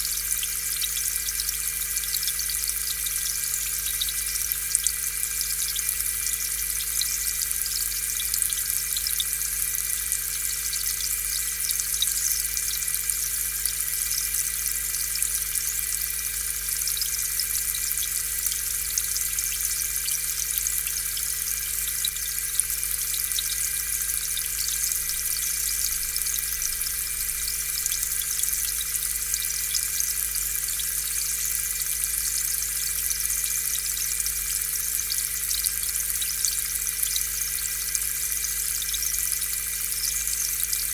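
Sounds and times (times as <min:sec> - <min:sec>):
aquarium air pump humming: 0:00.0 - 0:40.9.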